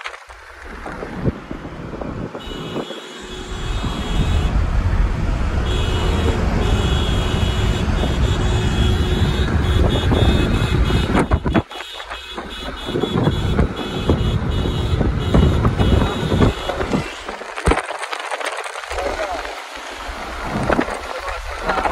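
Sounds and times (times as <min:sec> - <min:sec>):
car road and wind rumble: 0:00.0 - 0:21.9.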